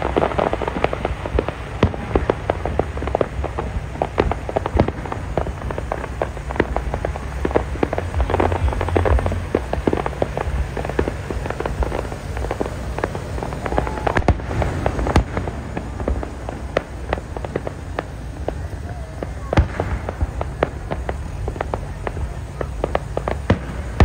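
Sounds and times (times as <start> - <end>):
fireworks bangs and pops: 0.0 - 24.0
low rumble: 0.0 - 24.0.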